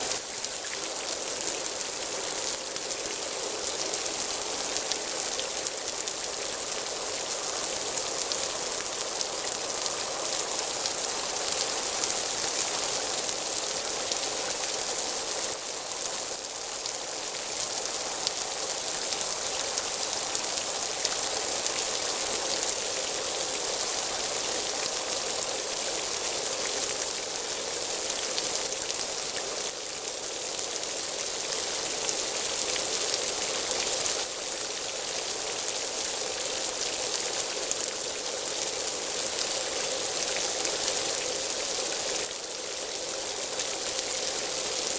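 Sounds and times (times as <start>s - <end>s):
light rain pattering: 0.0s - 44.9s.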